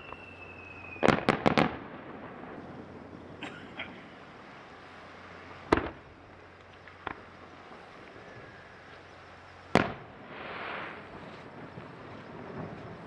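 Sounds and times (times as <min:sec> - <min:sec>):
faint firework crack: 0:00.0 - 0:13.0
fireworks booming: 0:00.0 - 0:13.0.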